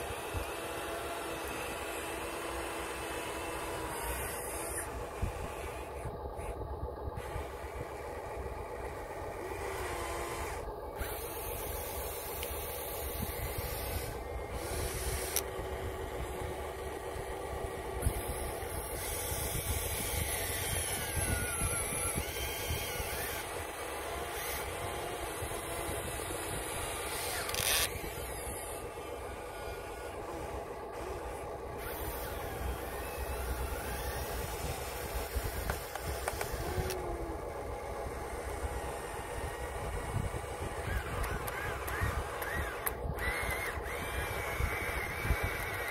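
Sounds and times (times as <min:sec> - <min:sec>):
electric motor whine: 0:00.0 - 0:45.9.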